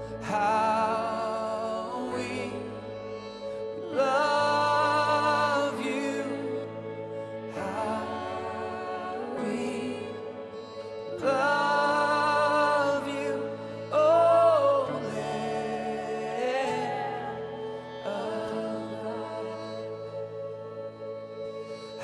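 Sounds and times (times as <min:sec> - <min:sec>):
man singing: 0:00.0 - 0:22.0
sustained instrumental backing: 0:00.0 - 0:22.0.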